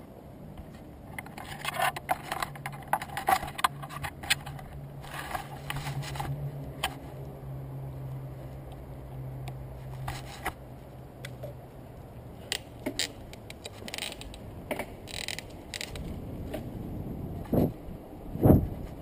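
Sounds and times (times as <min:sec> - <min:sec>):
low steady hum: 0:00.0 - 0:19.0
handling clicks and rustles: 0:00.5 - 0:07.4, 0:08.0 - 0:16.8.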